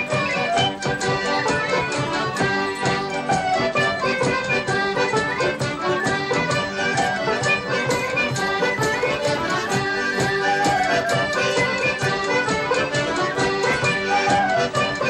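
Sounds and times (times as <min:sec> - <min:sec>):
instrumental folk music: 0:00.0 - 0:15.0.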